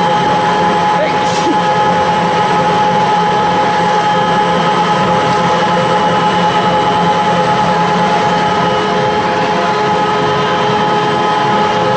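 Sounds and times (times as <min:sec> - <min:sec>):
pellet mill machine drone: 0:00.0 - 0:11.9.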